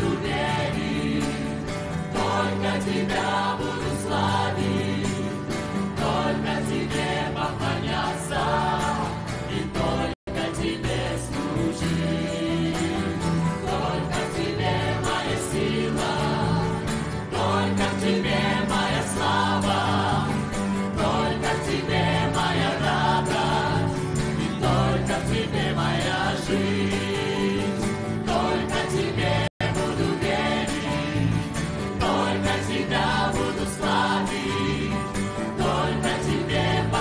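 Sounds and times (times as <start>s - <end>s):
acoustic guitar: 0.0s - 37.0s
choir singing: 0.0s - 37.0s.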